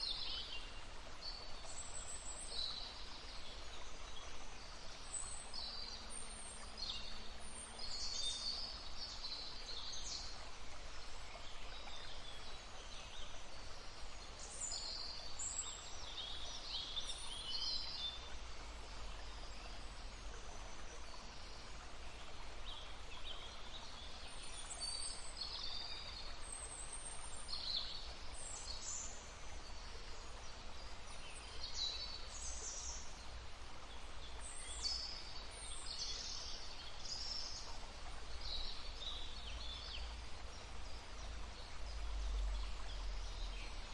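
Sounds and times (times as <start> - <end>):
songbirds chirping: 0.0 - 43.9
stream running: 0.0 - 43.9.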